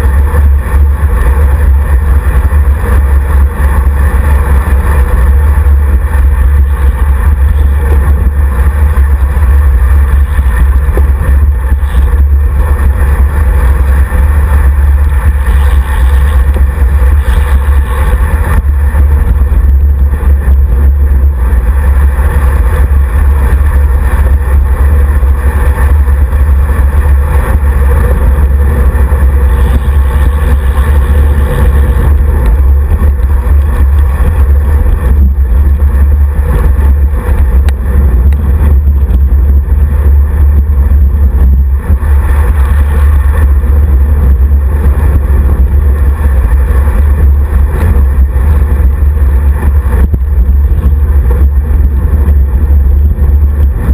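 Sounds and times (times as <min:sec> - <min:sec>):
road and tyre noise: 0:00.0 - 0:53.9
wind buffeting microphone: 0:00.0 - 0:53.9.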